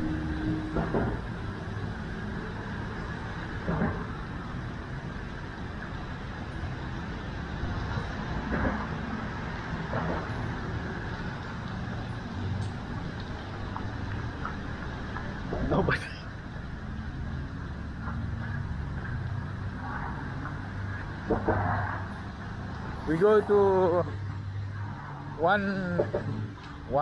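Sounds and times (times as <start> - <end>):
road traffic noise: 0.0 - 27.0
vehicle engine rumble: 0.0 - 27.0.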